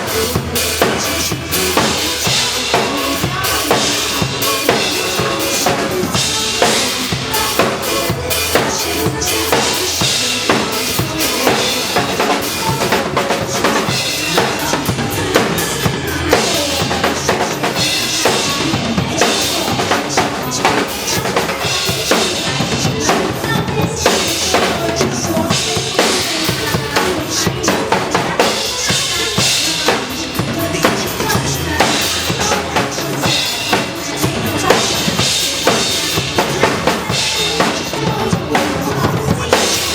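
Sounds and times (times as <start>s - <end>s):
drum kit playing beat: 0.0s - 39.9s
pop backing music: 0.0s - 39.9s.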